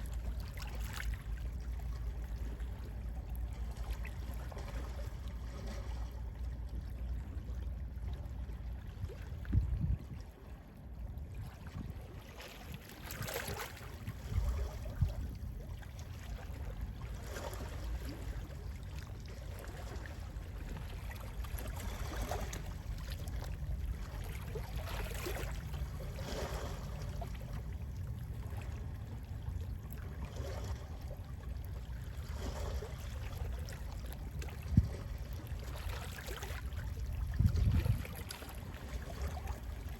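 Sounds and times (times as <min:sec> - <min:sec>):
sea waves lapping on shore: 0:00.0 - 0:39.9.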